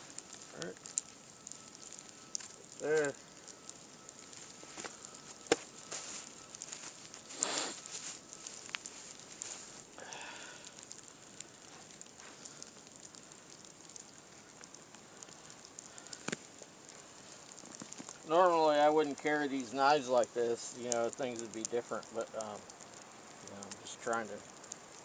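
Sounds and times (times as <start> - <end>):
fire popping: 0.0 - 25.0
wood fire crackling: 0.0 - 25.0.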